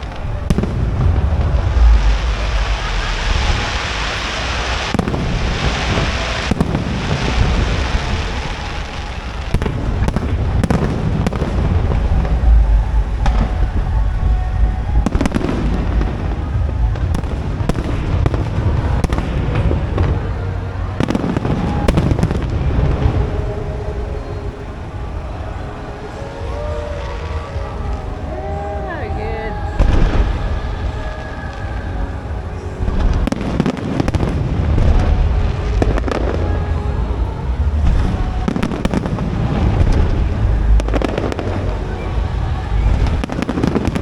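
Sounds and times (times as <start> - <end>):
fireworks bangs and crackles: 0.0 - 44.0
low rumble of booms: 0.0 - 44.0.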